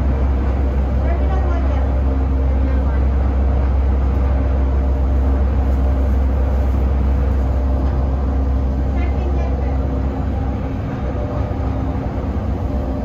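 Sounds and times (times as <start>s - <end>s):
train rumbling at speed: 0.0s - 13.0s.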